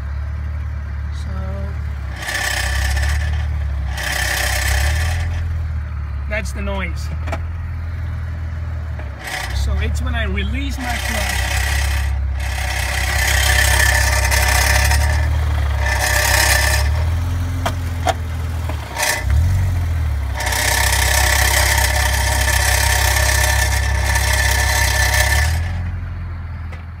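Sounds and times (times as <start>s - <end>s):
car engine running: 0.0s - 27.0s
rattling clatter under car: 1.8s - 6.4s, 7.0s - 27.0s.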